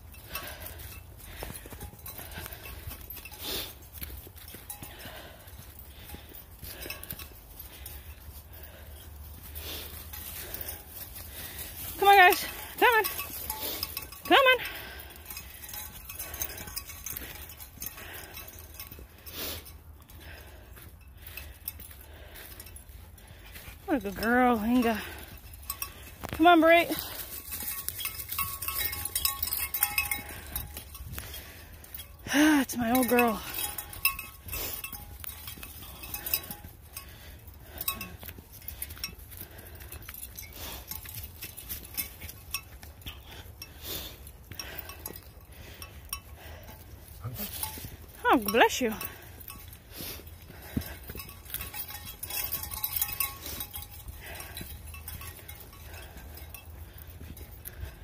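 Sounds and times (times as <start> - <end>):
dog tags jingling: 0.0 - 58.0.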